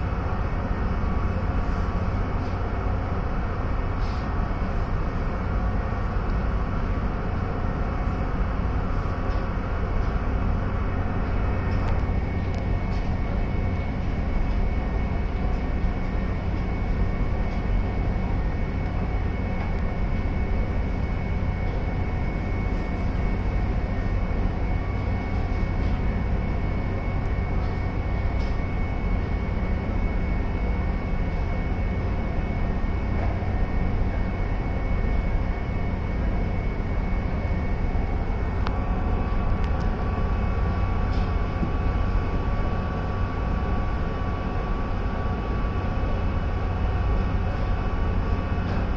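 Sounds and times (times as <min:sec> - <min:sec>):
ship engine drone: 0:00.0 - 0:48.9
thin steady whine: 0:00.0 - 0:48.9.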